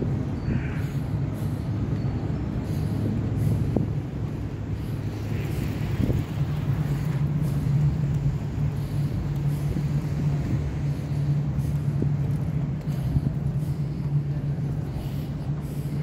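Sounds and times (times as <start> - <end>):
city street noise: 0.0 - 16.0
low engine hum: 0.0 - 16.0.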